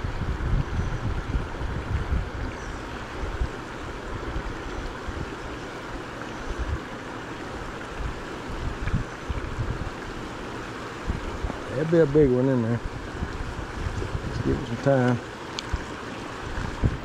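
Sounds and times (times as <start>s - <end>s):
wind buffeting microphone: 0.0s - 17.0s
river water rushing over rocks: 1.3s - 17.0s.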